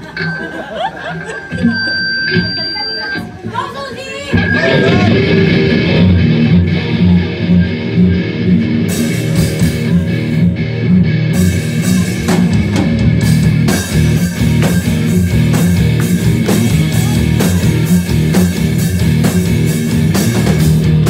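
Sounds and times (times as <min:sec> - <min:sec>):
bass guitar: 0:00.0 - 0:21.0
drums and cymbal hits: 0:00.0 - 0:21.0
electric guitars: 0:00.0 - 0:21.0.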